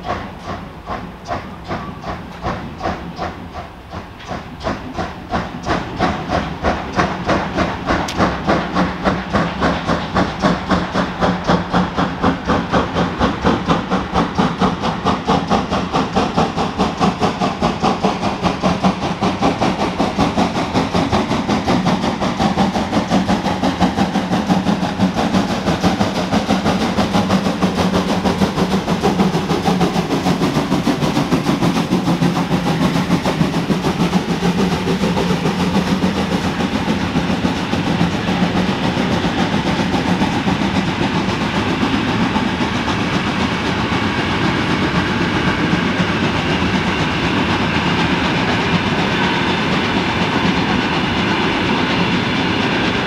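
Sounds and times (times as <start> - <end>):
steam train running with rhythmic beat: 0.0 - 53.0.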